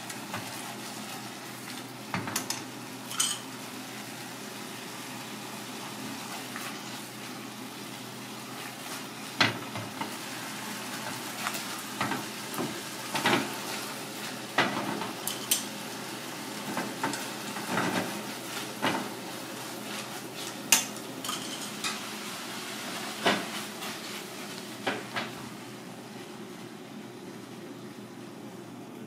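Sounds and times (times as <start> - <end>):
vegetables sizzling in a pan: 0.0 - 28.0.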